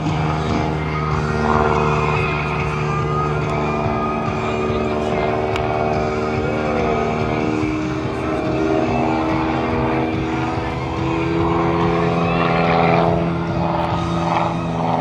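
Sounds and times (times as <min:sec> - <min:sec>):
propeller airplane engine: 0:00.0 - 0:15.0.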